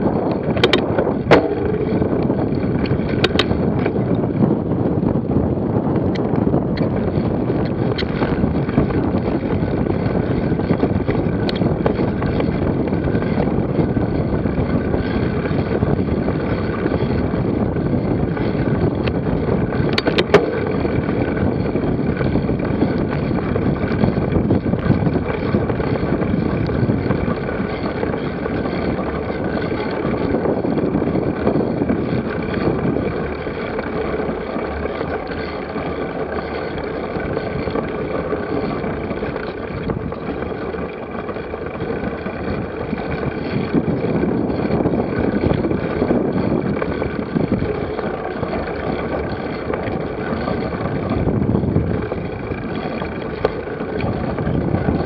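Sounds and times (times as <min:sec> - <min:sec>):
dense fine rattle: 0:00.0 - 0:55.0
rushing noise of movement: 0:00.0 - 0:55.0
wind on microphone: 0:00.0 - 0:55.0.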